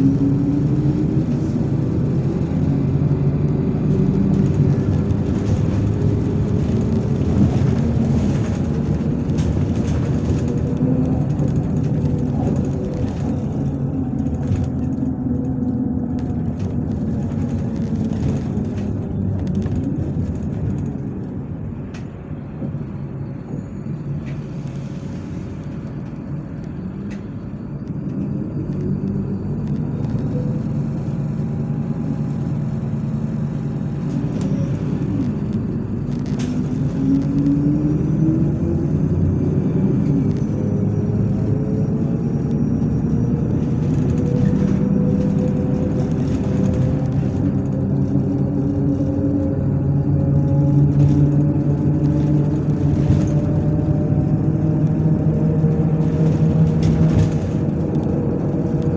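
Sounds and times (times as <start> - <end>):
bus engine from inside: 0.0 - 58.9.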